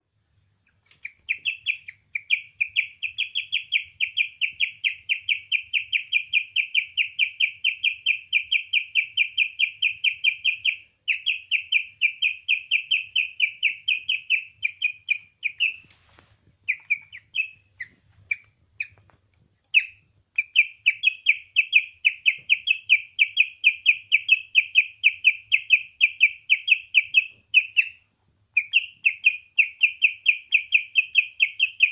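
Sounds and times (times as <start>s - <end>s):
guinea pig chirping: 0.6s - 16.0s, 16.6s - 31.9s.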